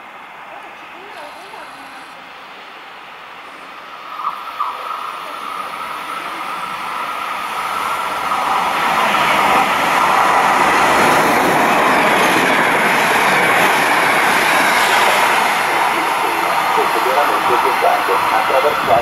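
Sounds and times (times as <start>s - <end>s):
train passing at speed: 0.0s - 19.0s.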